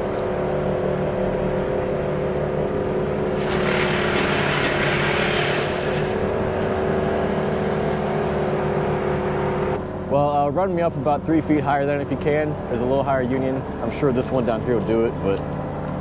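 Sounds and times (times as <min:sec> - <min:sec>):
crane engine running: 0:00.0 - 0:16.0.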